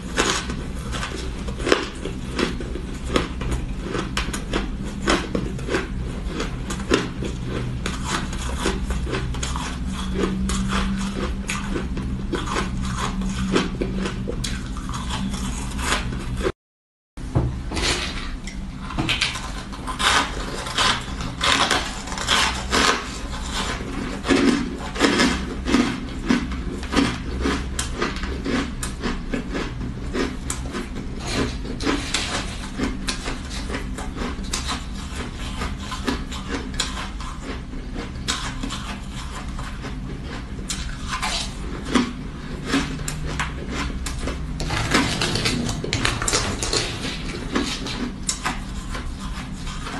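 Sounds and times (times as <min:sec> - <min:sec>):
ice being chewed: 0:00.0 - 0:16.5, 0:19.1 - 0:49.9
plastic spoon scraping ice: 0:00.0 - 0:16.5, 0:17.7 - 0:37.3, 0:41.0 - 0:49.9
steady low hum: 0:00.0 - 0:16.5, 0:17.2 - 0:49.9.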